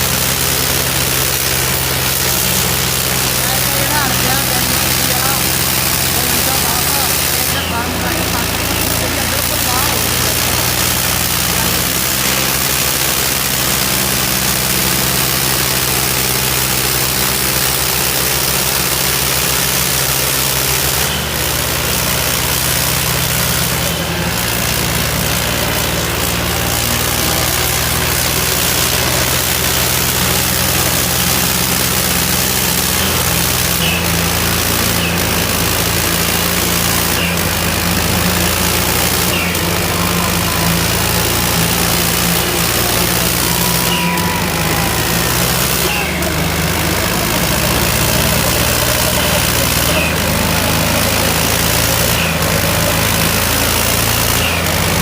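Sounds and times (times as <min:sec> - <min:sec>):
diesel tractor engines running: 0:00.0 - 0:55.0
loud steady hiss: 0:00.0 - 0:55.0.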